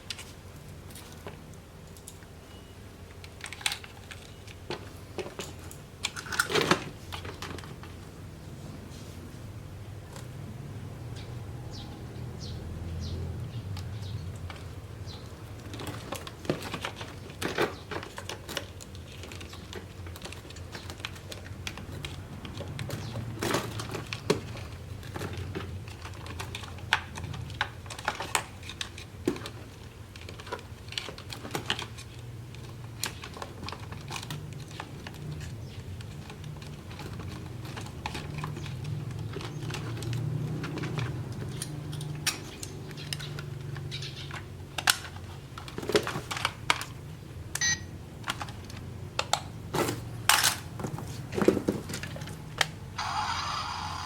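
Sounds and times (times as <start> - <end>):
small pieces clicking and tapping: 3.1 - 8.0, 13.7 - 52.8.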